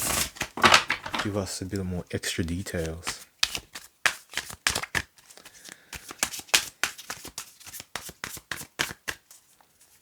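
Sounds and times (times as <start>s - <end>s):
cards being shuffled: 0.0s - 1.4s, 2.4s - 9.3s.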